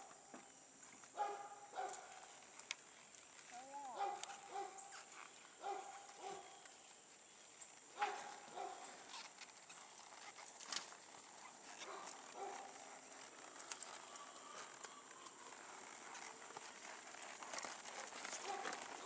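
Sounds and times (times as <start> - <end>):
hooves on sand: 1.0 - 19.0.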